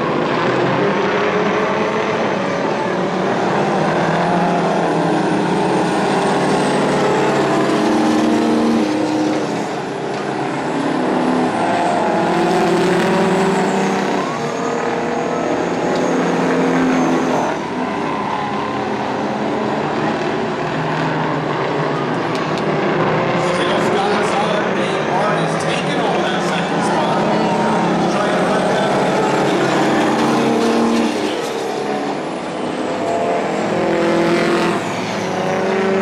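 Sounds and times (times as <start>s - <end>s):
truck diesel engines revving: 0.0s - 36.0s.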